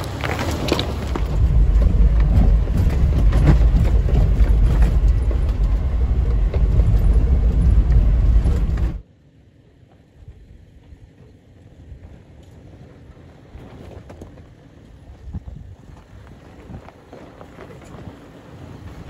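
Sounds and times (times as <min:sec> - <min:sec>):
faint outdoor background: 0:00.0 - 0:19.0
vehicle low rumble: 0:00.0 - 0:19.0.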